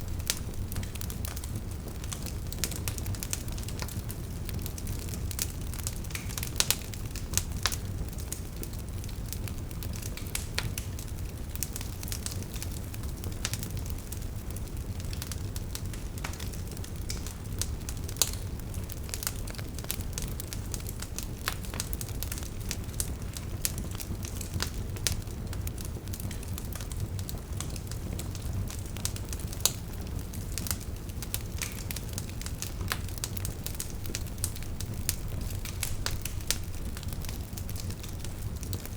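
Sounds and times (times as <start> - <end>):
logs crackling and popping: 0.0 - 38.9
wood fire rumbling: 0.0 - 38.9.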